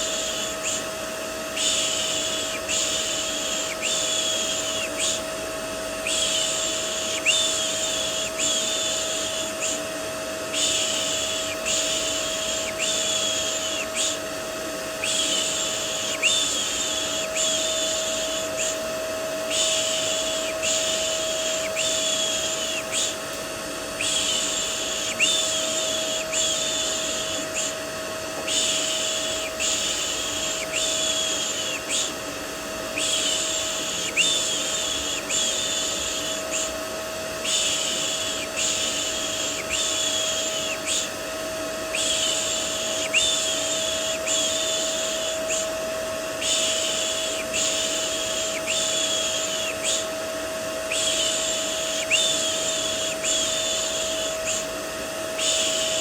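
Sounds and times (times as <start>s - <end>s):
vacuum cleaner drone: 0.0s - 56.0s.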